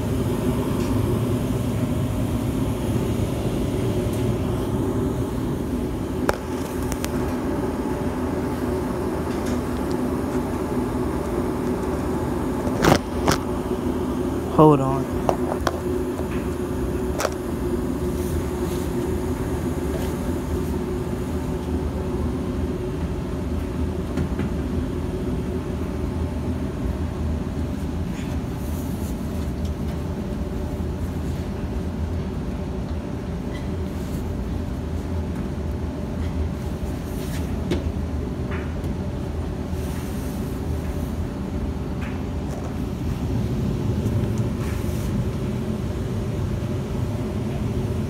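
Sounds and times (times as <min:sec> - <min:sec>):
faint hum: 0:00.0 - 0:48.0
gas furnace low rumble: 0:00.0 - 0:48.0.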